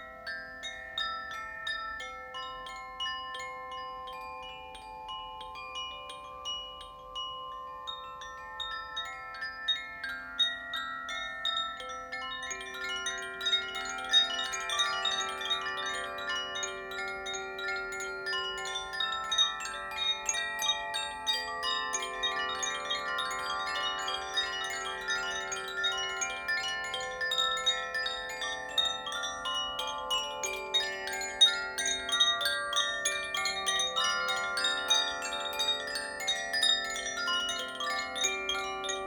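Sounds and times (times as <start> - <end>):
wind chimes ringing: 0.0 - 39.0.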